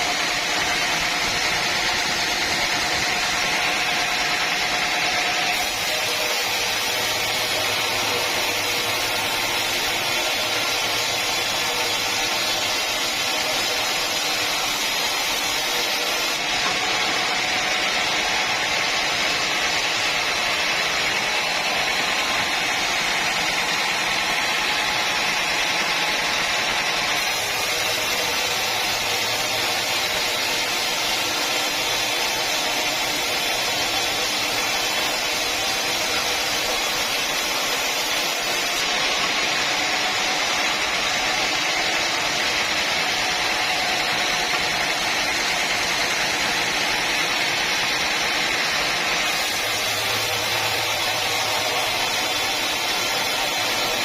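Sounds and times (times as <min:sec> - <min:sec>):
sawmill saw cutting logs: 0:00.0 - 0:54.0.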